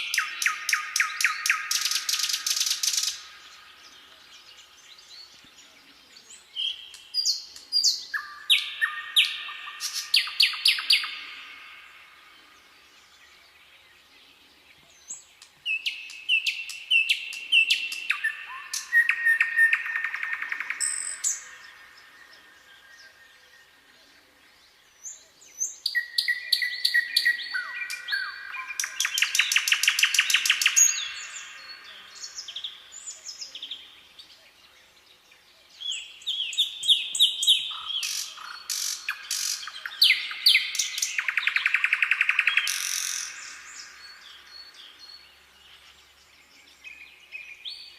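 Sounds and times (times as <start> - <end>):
songbird singing with trill: 0.0 - 47.9.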